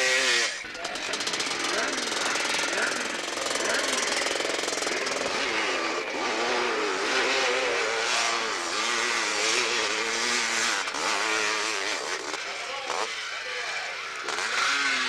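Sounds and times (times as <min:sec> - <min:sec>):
dirt bike engine revving hard: 0:00.0 - 0:15.0.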